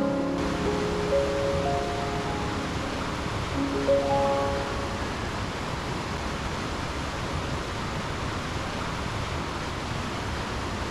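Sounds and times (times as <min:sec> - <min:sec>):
flowing water rushing: 0:00.0 - 0:10.9.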